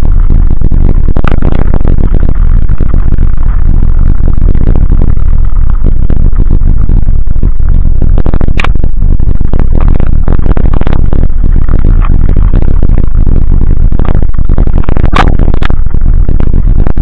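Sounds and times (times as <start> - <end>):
wind buffeting on microphone: 0.0 - 17.0.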